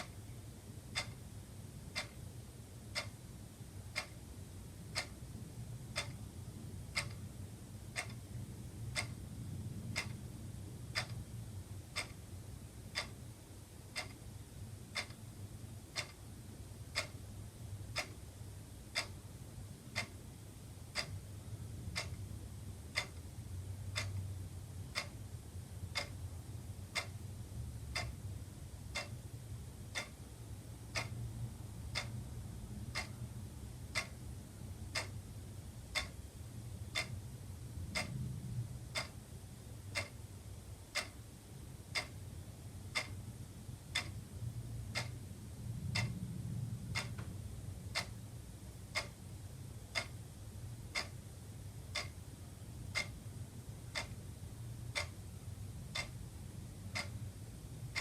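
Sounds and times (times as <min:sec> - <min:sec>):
low steady hum: 0:00.0 - 0:58.0
wall clock ticking: 0:00.0 - 0:58.0.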